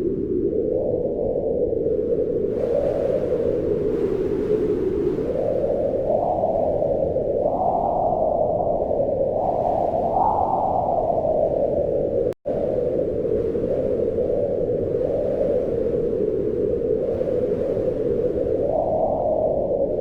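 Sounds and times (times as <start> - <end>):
wind howling: 0.0 - 20.0.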